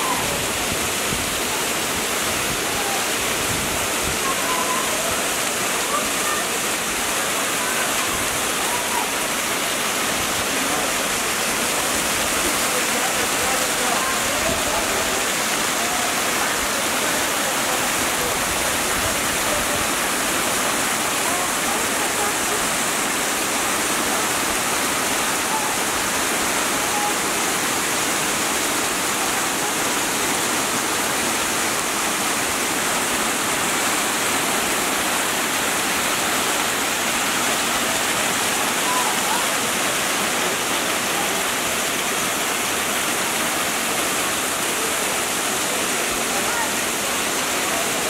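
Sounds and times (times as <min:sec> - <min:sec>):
waterfall rushing over rocks: 0:00.0 - 0:48.0.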